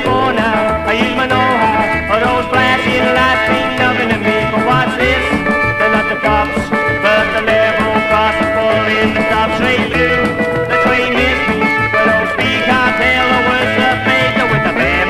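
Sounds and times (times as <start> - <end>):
rockabilly band playing: 0.0 - 15.0.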